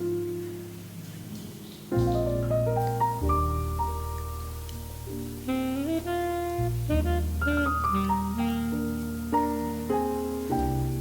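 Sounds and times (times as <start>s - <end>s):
mellow instrumental music: 1.9s - 11.0s.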